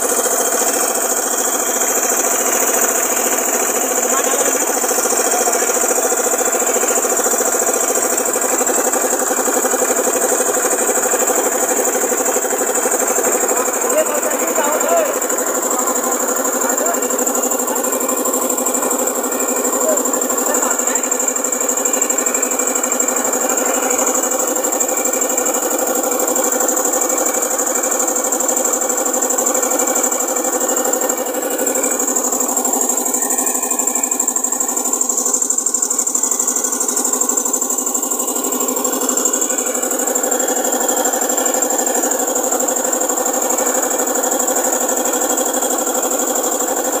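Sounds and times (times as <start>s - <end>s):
tractor engine running: 0.0s - 47.0s.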